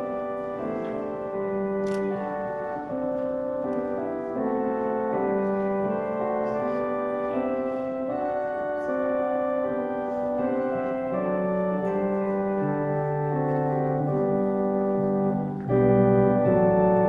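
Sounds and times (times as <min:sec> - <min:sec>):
slow held chords music: 0:00.0 - 0:17.0.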